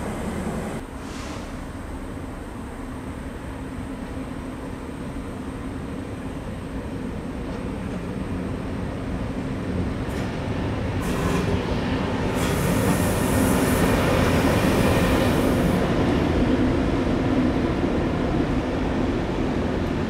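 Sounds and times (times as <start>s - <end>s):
train moving through station: 0.0s - 20.0s.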